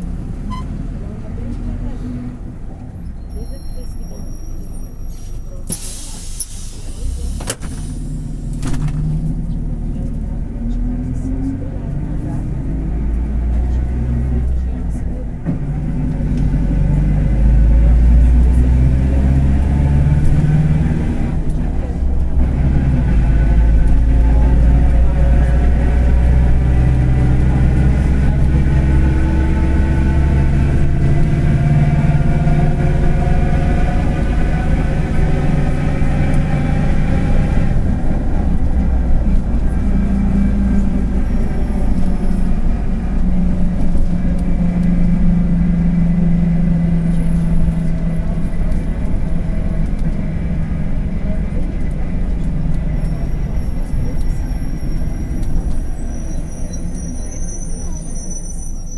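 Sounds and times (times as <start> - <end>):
diesel bus engine: 0.0 - 58.9.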